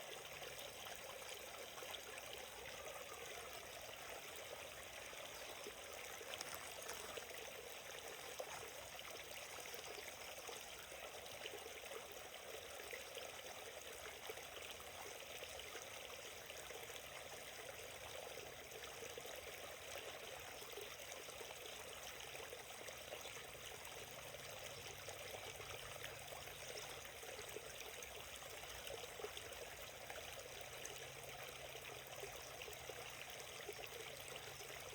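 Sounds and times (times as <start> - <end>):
stream flowing over stones: 0.0 - 34.9.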